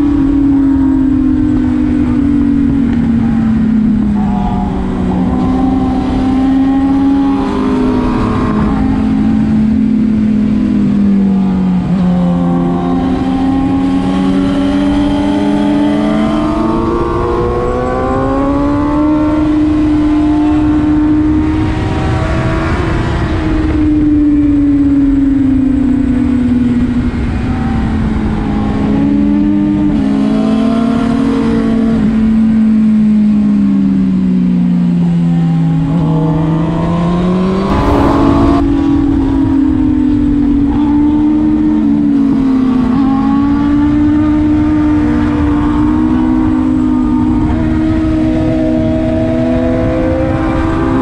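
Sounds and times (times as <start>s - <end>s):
wind rushing over microphone: 0.0s - 32.8s, 35.6s - 51.0s
motorcycle engine at high revs: 0.0s - 51.0s.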